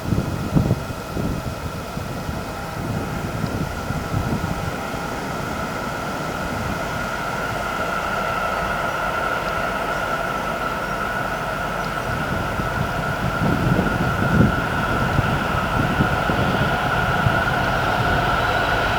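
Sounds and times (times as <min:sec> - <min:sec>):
train wheels rumbling on track: 0:00.0 - 0:18.9.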